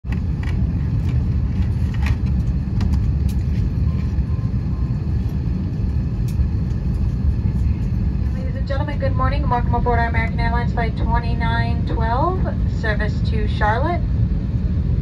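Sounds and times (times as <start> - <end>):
aircraft ventilation rumble: 0.0 - 15.0.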